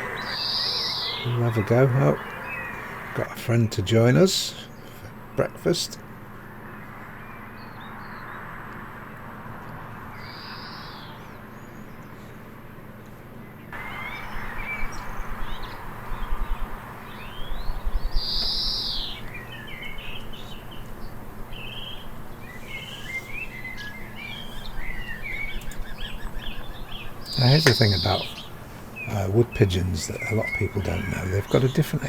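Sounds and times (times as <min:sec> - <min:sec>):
birds chirping and singing: 0:00.0 - 0:08.5, 0:09.9 - 0:12.6, 0:13.3 - 0:32.0.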